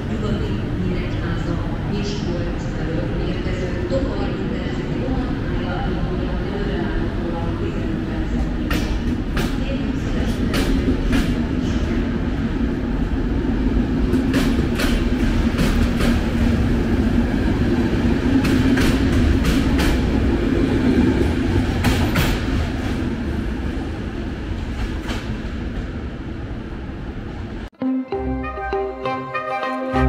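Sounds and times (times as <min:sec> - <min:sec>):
train rumbling past: 0:00.0 - 0:27.7.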